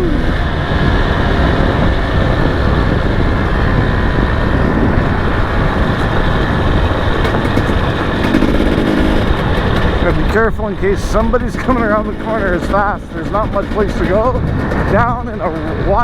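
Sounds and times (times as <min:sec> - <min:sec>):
dirt bike engine running: 0:00.0 - 0:16.0
wind rush on microphone: 0:00.0 - 0:16.0.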